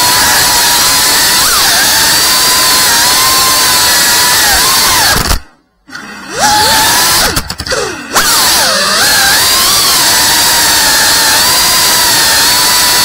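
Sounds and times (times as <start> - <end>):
drone motors whining: 0.0 - 5.5, 6.3 - 13.0.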